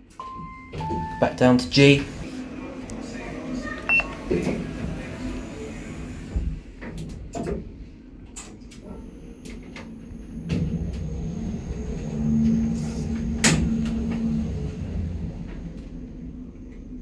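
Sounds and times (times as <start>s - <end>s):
lift doors sliding closed: 0.0s - 17.0s
low hum of lift travelling: 0.0s - 17.0s.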